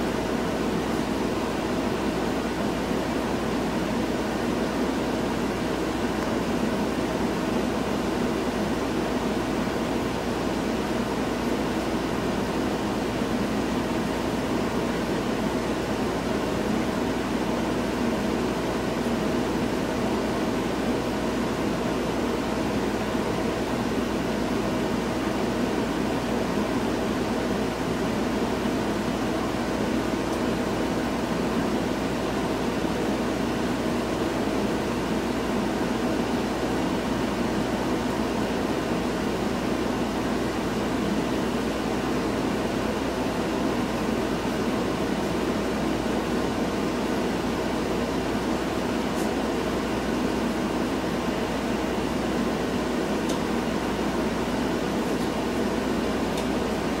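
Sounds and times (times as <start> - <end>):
fan humming and hissing: 0.0 - 57.0.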